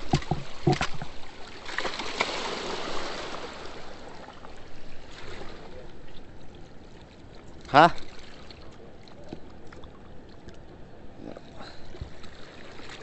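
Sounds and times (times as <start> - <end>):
water splashing: 0.0 - 10.7, 11.4 - 13.0.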